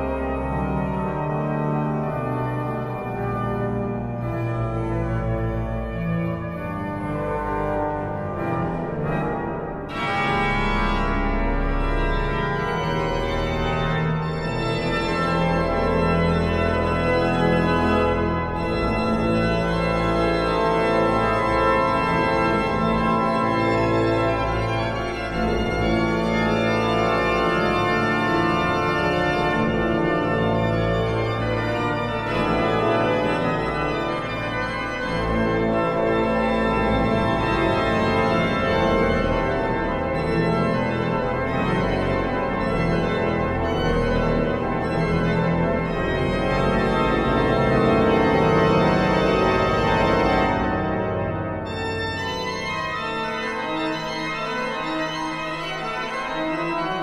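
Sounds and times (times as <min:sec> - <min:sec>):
pipe organ chords: 0:00.0 - 0:57.0.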